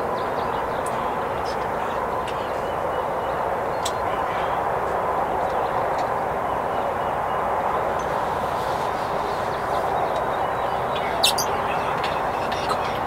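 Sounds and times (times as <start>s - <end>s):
small birds chirping: 0.0s - 4.6s, 5.2s - 13.0s
steady outdoor noise: 0.0s - 13.0s.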